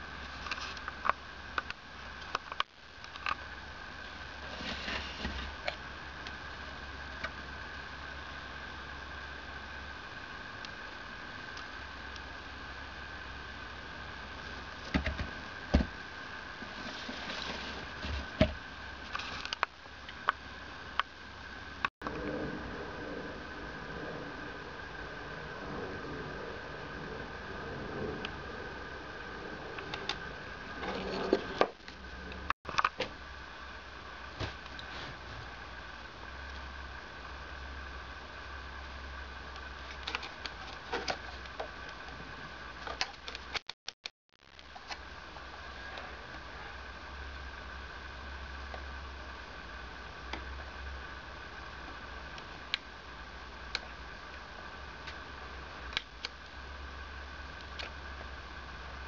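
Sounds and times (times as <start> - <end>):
steady background hum: 0.0 - 43.7, 44.4 - 59.0.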